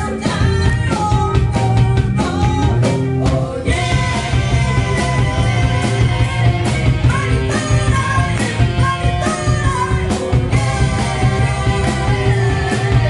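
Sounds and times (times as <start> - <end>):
drums: 0.0 - 13.0
electric guitar: 0.0 - 13.0
woman singing: 0.0 - 13.0.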